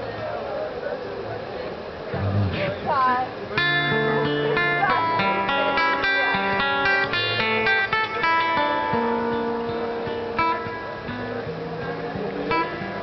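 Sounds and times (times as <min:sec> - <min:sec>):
acoustic guitar chords: 0:02.1 - 0:13.0.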